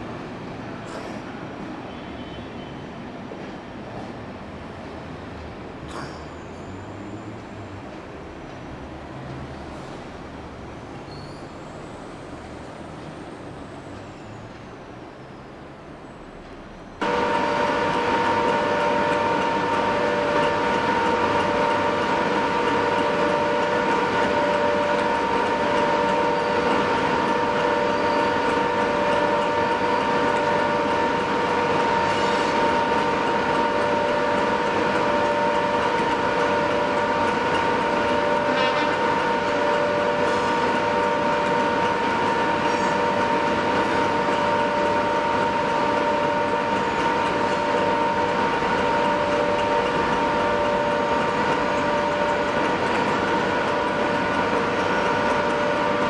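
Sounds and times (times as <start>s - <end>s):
diesel train engine running: 3.0s - 56.0s.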